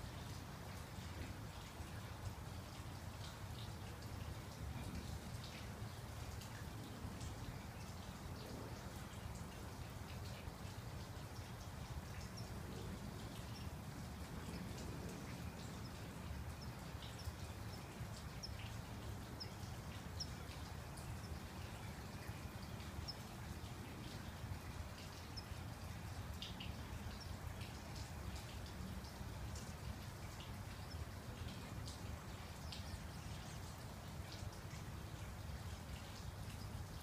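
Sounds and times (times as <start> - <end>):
light rain rumble: 0.0 - 37.0
faint ticks: 0.2 - 35.4.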